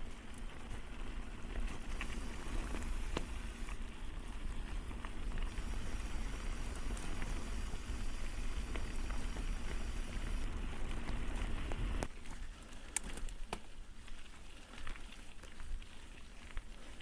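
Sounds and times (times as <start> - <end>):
bike tyres rumbling over gravel: 0.0 - 17.0
ticks and crackles: 0.0 - 17.0.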